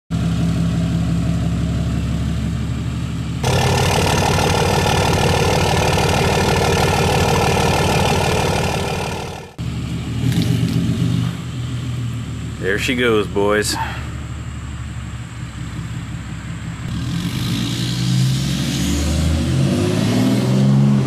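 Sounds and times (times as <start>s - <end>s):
diesel truck engine running: 0.1s - 17.3s.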